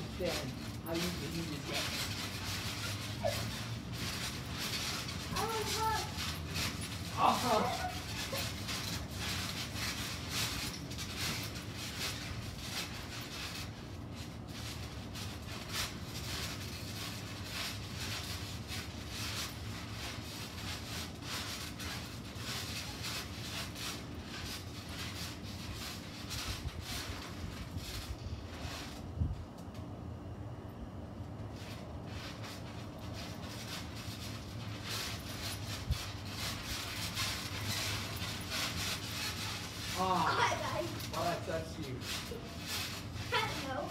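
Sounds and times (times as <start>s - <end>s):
steady low hum: 0.0s - 43.9s
trampoline springs bouncing: 0.0s - 43.9s.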